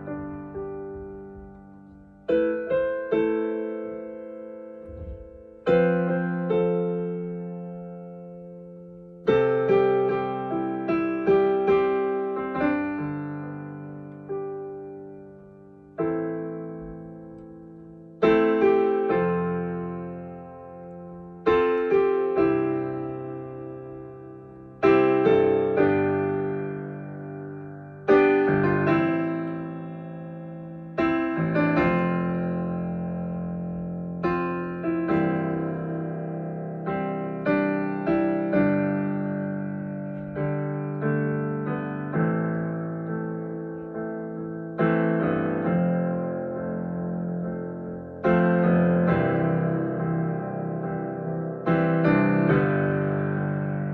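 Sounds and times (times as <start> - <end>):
rolled piano chords: 0.0 - 53.9.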